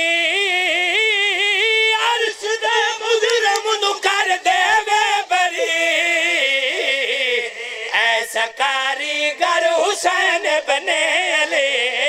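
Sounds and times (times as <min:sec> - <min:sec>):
man singing unaccompanied: 0:00.0 - 0:12.0
voices singing along: 0:00.0 - 0:12.0.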